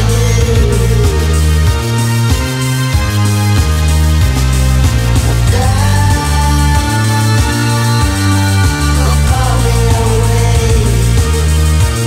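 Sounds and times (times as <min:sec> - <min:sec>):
loud music with deep bass: 0:00.0 - 0:12.0.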